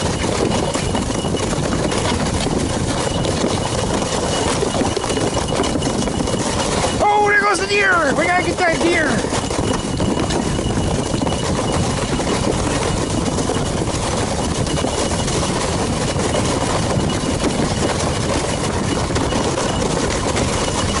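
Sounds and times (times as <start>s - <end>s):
ski bike running over snow: 0.0s - 21.0s.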